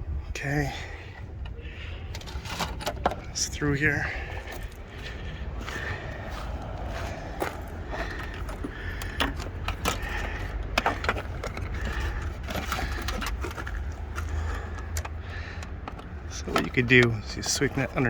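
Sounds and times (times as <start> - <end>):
steady low rumble: 0.0 - 18.0
cable clicking and rustling: 1.2 - 3.6, 4.3 - 18.0.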